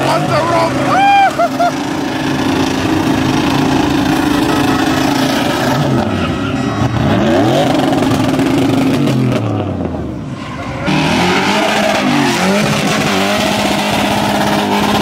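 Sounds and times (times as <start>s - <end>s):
car engine high-rev drone: 0.0s - 15.0s
truck engine revving: 0.0s - 15.0s.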